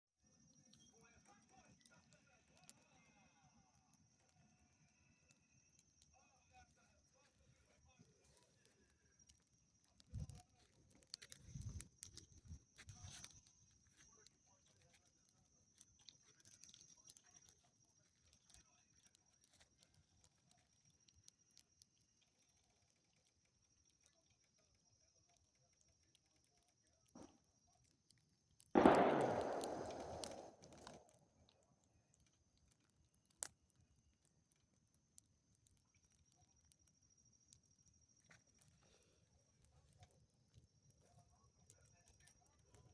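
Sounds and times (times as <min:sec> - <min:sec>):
bonfire crackling and popping: 0:00.5 - 0:04.6, 0:05.7 - 0:42.9.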